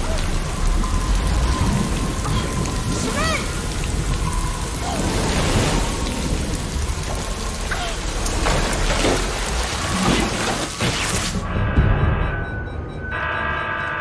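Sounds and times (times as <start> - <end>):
water gushing in torrent: 0.0 - 11.4.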